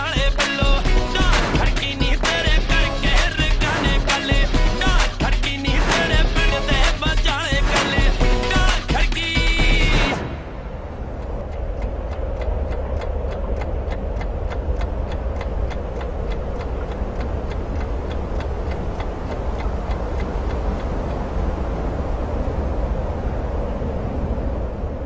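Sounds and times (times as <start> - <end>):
clock-like ticking: 0.0 - 22.2
low rumbling drone: 0.0 - 25.0.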